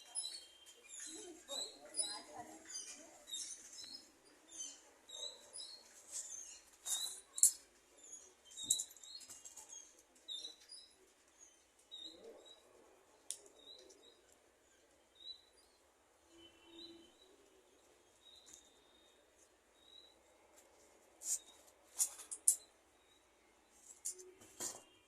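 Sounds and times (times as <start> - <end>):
small birds chirping: 0.0 - 20.4.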